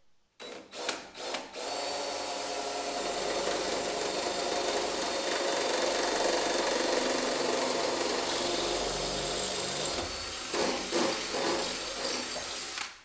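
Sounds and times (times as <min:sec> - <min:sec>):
cordless drill running: 0:00.4 - 0:13.0.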